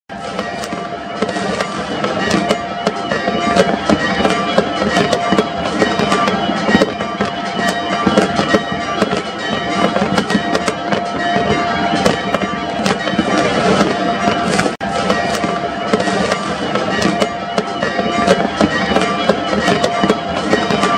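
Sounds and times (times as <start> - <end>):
fireworks bangs and crackles: 0.1 - 20.9.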